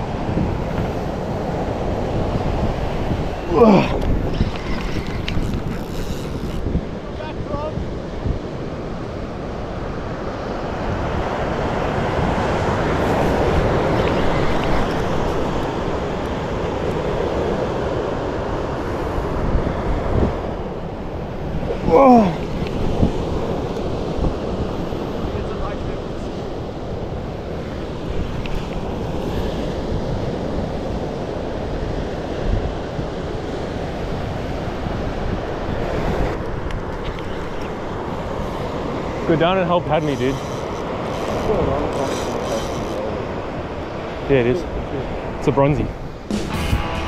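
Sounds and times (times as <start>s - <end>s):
ocean surf breaking: 0.0s - 47.0s
wind buffeting microphone: 0.0s - 47.0s.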